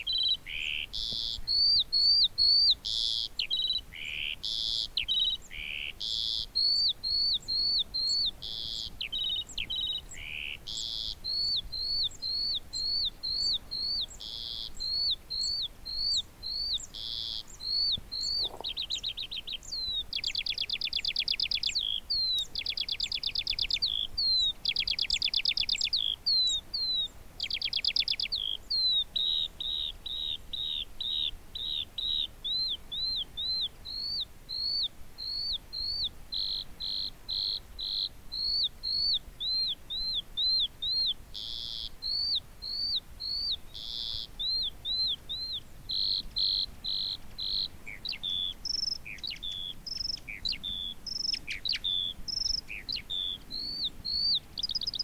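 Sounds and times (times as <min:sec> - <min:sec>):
skylark singing: 0:00.0 - 0:55.0.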